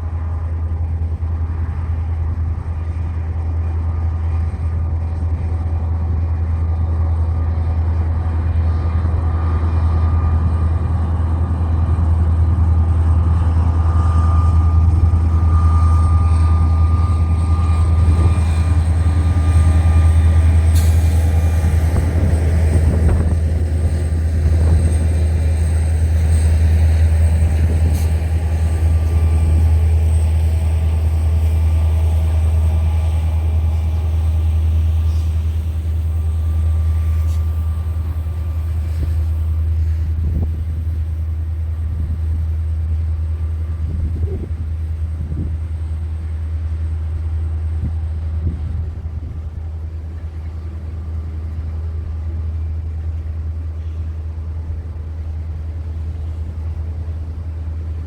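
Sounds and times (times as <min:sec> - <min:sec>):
train rumbling: 0:00.0 - 0:58.0.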